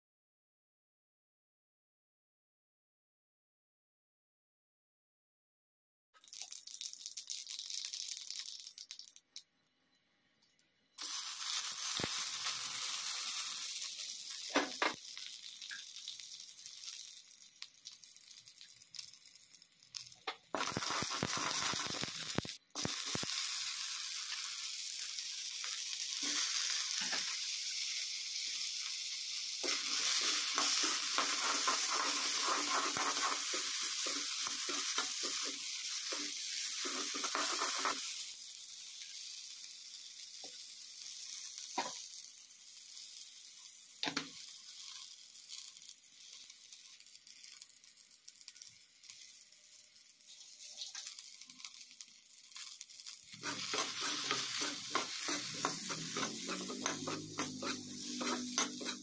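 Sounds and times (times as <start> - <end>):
oil sizzling in a frying pan: 6.2 - 9.2, 10.9 - 59.0.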